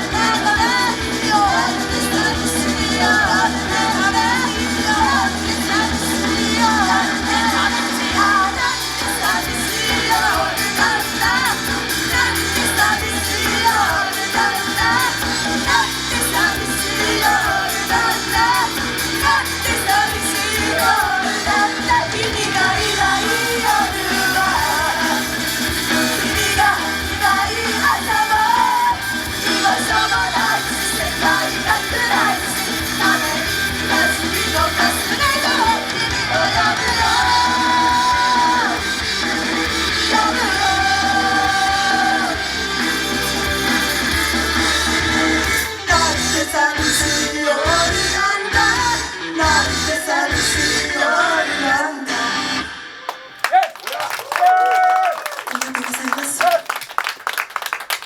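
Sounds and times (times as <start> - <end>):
group singing rock-pop song: 0.0 - 52.9.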